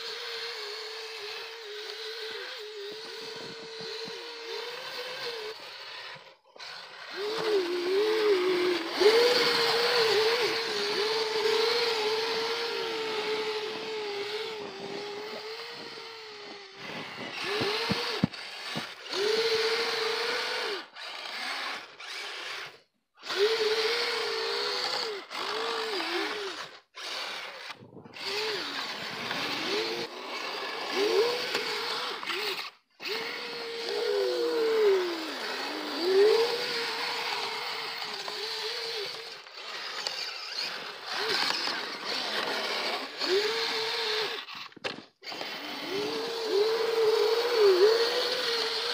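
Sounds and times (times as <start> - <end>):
electric motors whining: 0.0 - 48.9.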